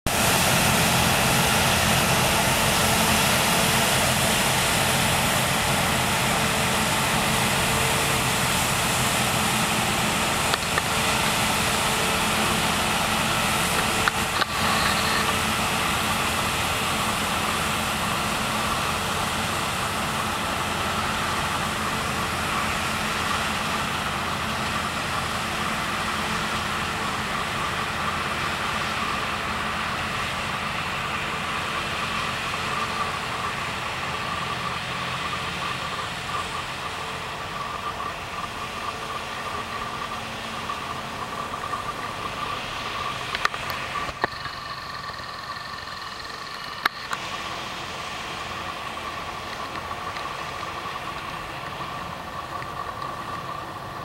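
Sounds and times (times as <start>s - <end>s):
combine harvester engine drone: 0.1s - 54.0s.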